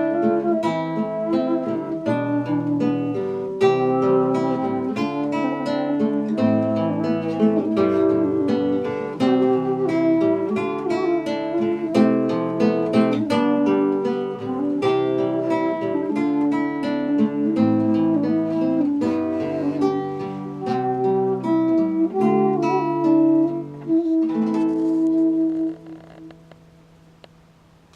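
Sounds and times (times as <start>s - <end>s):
acoustic guitar strumming: 0.0s - 27.9s.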